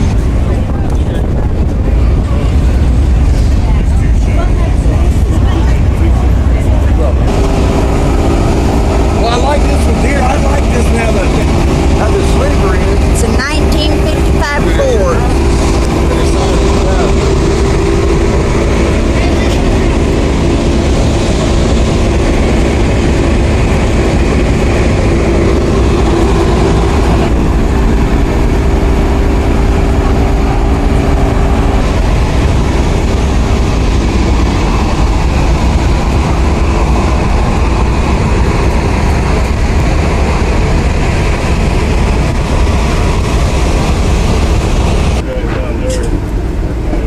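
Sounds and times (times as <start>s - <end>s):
heavy truck engine rumbling: 0.0s - 47.0s.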